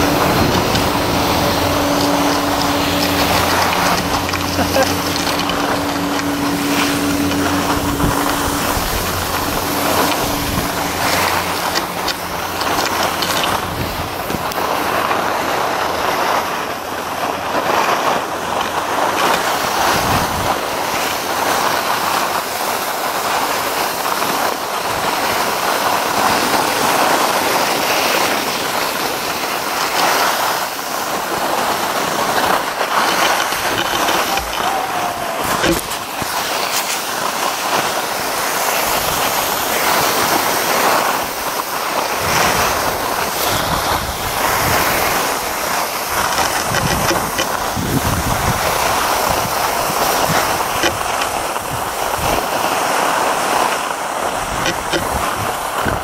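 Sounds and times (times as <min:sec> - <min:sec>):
steady hum: 0:00.0 - 0:52.3
skis scraping on snow: 0:00.0 - 0:56.0
wind on microphone: 0:00.0 - 0:56.0.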